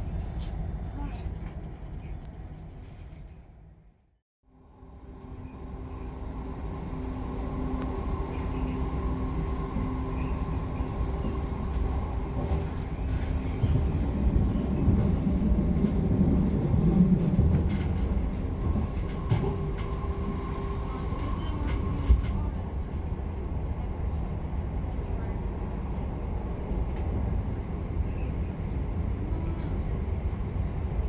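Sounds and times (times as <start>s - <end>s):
electric train rumbling: 0.0s - 3.9s, 4.5s - 31.0s.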